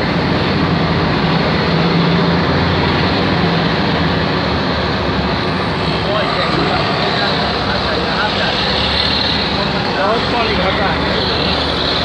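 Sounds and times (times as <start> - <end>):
boat engine droning: 0.0 - 12.0
constant rushing noise: 0.0 - 12.0.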